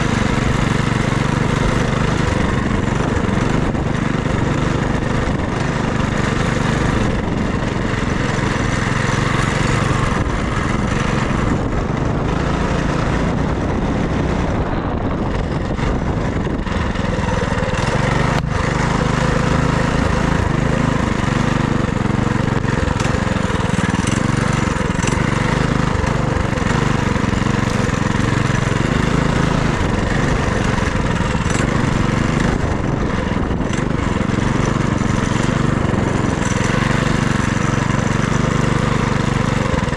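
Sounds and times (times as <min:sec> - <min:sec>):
broad rushing noise: 0:00.0 - 0:39.9
minibike engine running: 0:00.0 - 0:39.9.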